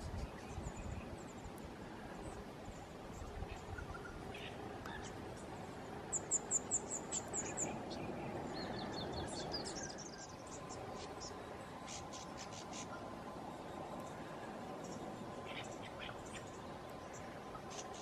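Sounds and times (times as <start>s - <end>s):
background hiss: 0.0s - 18.0s
small birds chirping: 0.0s - 18.0s.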